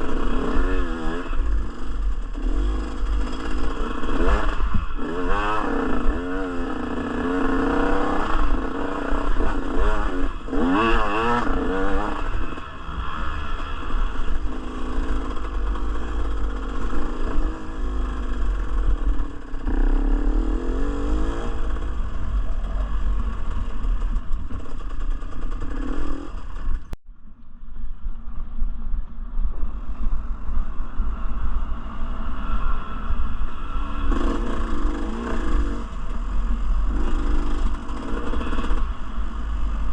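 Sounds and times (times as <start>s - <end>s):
dirt bike engine revving: 0.0s - 27.0s, 31.2s - 39.9s
low rumble: 0.0s - 39.9s.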